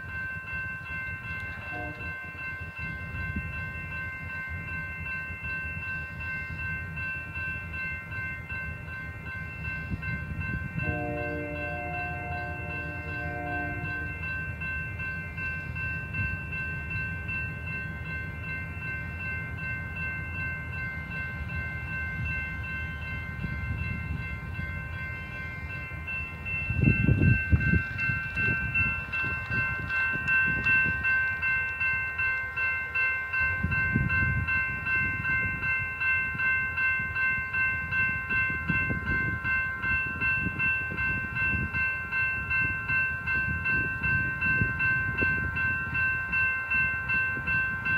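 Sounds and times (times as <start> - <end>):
crossing signal bell ringing: 0.0 - 47.9
freight train rumbling: 0.0 - 47.9.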